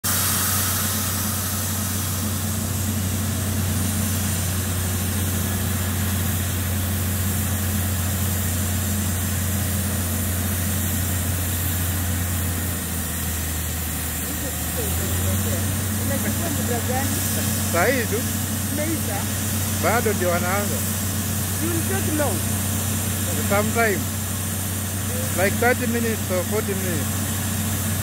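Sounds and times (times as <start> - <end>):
drilling rig engine running: 0.0 - 28.0
water and air spraying hiss: 0.0 - 28.0.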